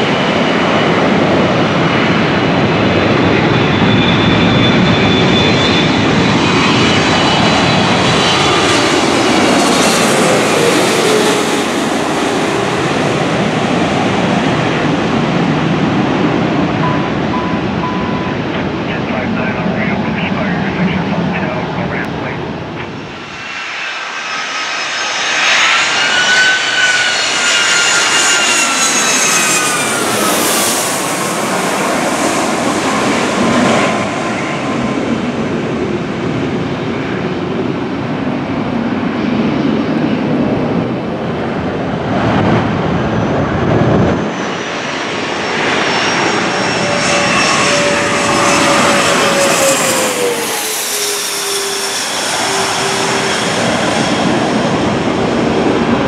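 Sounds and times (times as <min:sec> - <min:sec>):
jet airliner passing low: 0:00.0 - 0:56.0.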